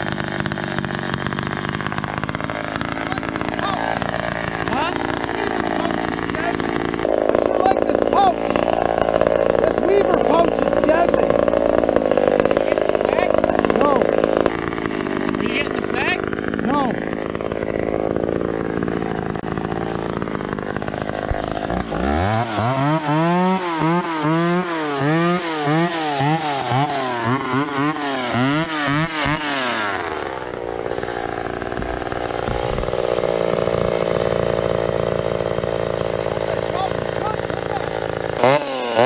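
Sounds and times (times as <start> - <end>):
chainsaw idling and revving: 0.0 - 39.0.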